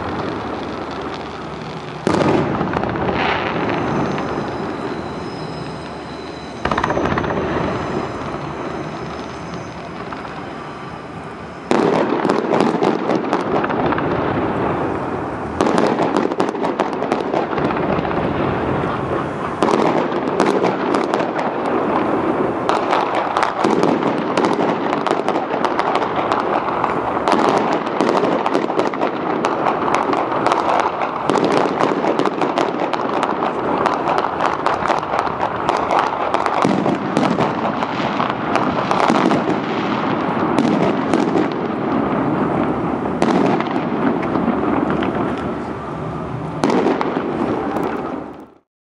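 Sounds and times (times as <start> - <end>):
firework hiss with high whistle: 0.0 - 41.2
fireworks crackling and popping: 0.0 - 48.7.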